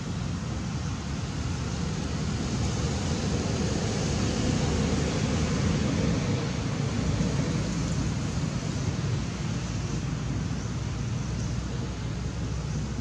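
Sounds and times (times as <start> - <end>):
low rushing outdoor background noise: 0.0 - 13.0.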